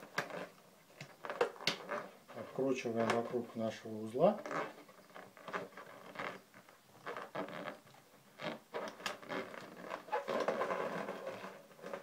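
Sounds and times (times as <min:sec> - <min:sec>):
rubber balloons rubbing and clicking: 0:00.0 - 0:12.0.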